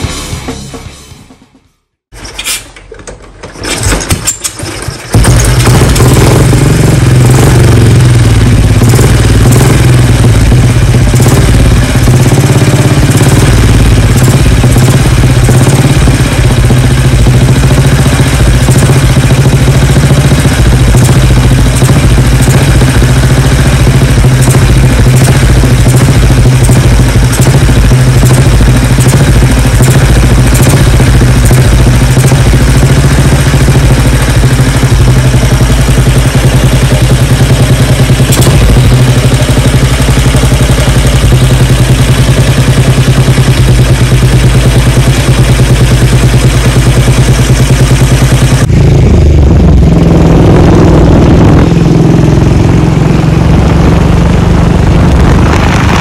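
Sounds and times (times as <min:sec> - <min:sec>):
motorcycle engine idling: 0:04.6 - 0:56.0.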